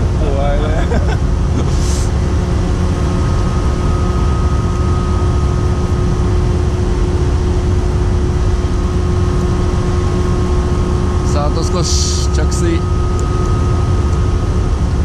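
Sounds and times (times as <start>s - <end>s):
high steady whine: 0.0s - 15.0s
machinery hum: 0.0s - 15.0s.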